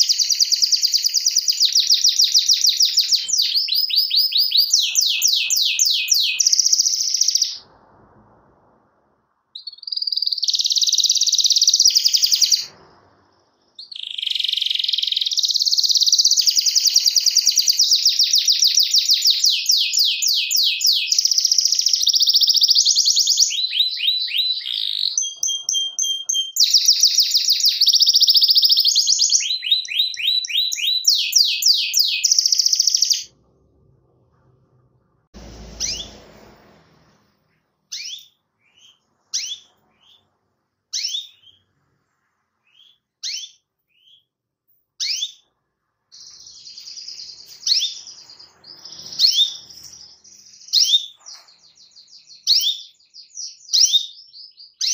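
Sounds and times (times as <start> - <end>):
canary singing trills: 0.0 - 7.7, 9.5 - 12.8, 13.7 - 33.4, 35.4 - 36.2, 37.9 - 41.8, 42.6 - 44.4, 45.0 - 45.5, 46.1 - 54.9.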